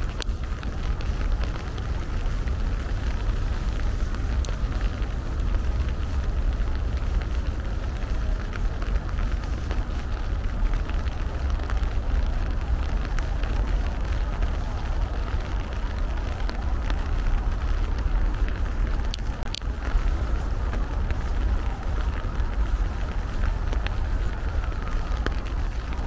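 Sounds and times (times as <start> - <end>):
constant low rumble: 0.0 - 26.0
steady rain falling: 0.0 - 26.0.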